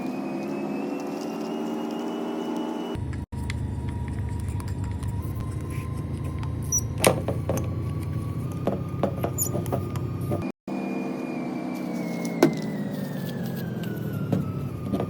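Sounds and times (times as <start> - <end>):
motor whine winding down: 0.0 - 15.0.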